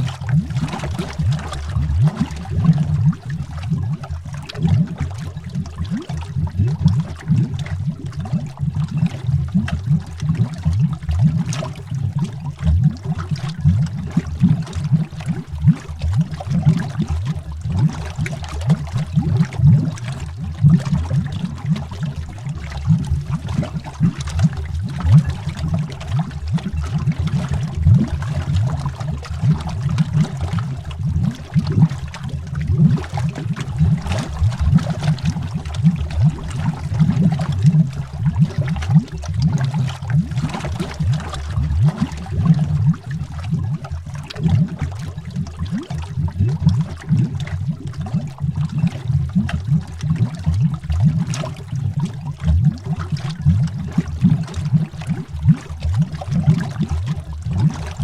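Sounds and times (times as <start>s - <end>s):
underwater bubbling: 0.0s - 58.0s.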